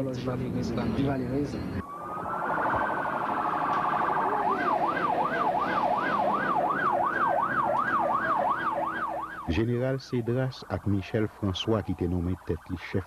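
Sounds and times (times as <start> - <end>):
siren wailing: 0.8 - 13.0
siren warble and yelp: 1.6 - 9.8, 10.5 - 13.0.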